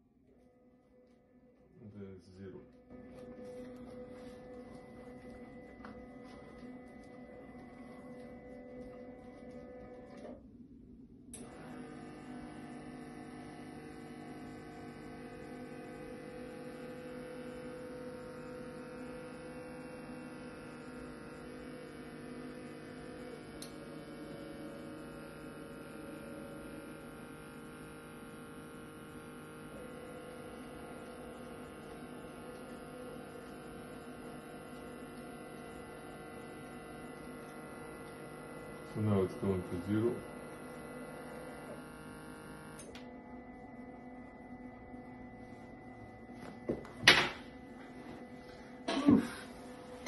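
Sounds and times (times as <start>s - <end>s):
stepper motors humming: 1.8s - 10.4s, 11.3s - 50.0s.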